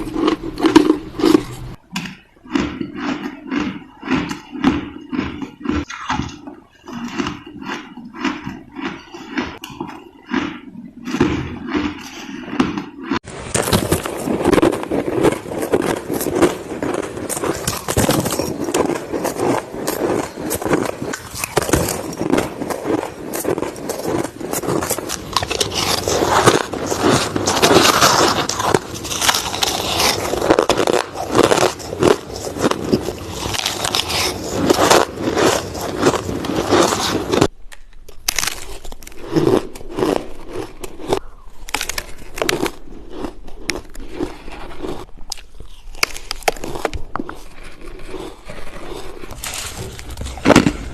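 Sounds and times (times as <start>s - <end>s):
chewing crushed ice: 0.0s - 50.9s.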